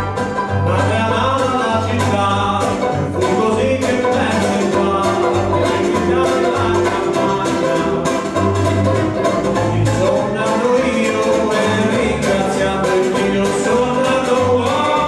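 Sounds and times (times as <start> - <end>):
acoustic guitar: 0.0 - 15.0
banjo: 0.0 - 15.0
upright double bass: 0.0 - 15.0.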